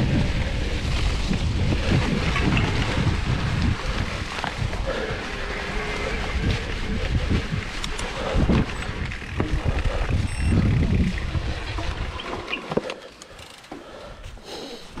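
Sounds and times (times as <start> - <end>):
wind buffeting microphone: 0.0 - 12.6
bike rattling: 0.0 - 15.0.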